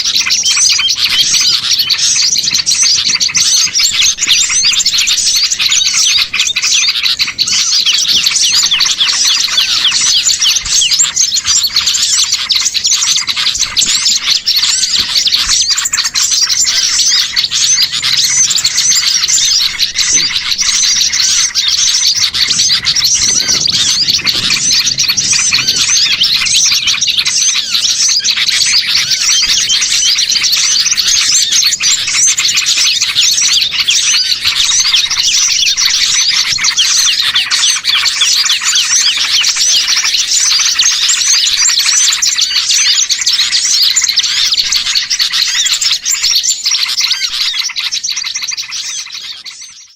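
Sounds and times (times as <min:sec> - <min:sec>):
songbirds chirping and twittering: 0:00.0 - 0:49.9.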